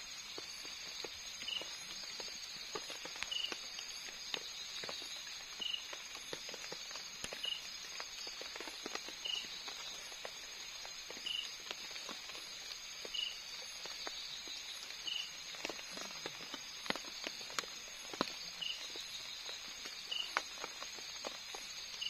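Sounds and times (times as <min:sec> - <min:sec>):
insects chorus: 0:00.0 - 0:22.0.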